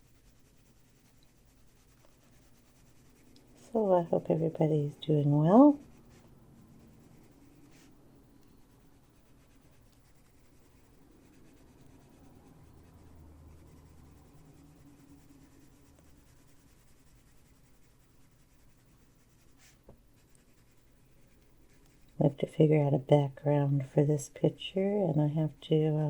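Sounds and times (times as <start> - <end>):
low room hum: 0.0 - 26.0
pencil scratching on paper: 0.0 - 26.0.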